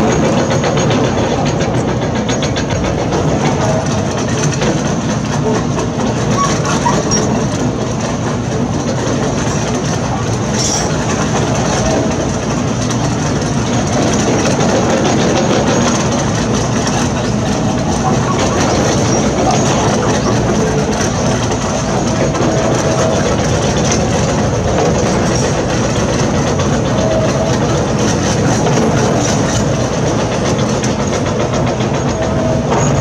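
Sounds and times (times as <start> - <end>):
diesel engine running: 0.0 - 33.0
machinery rattling and clanking: 0.0 - 33.0.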